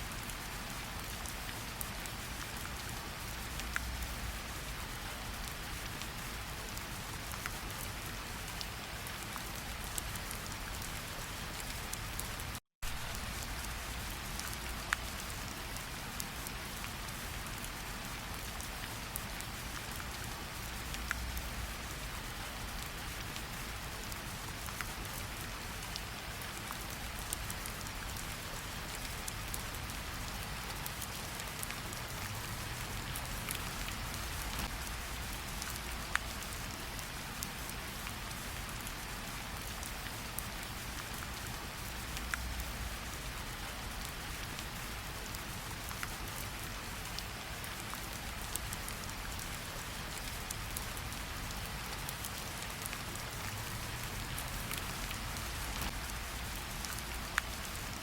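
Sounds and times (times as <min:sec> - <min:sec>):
rain on ground and puddles: 0:00.0 - 0:58.0.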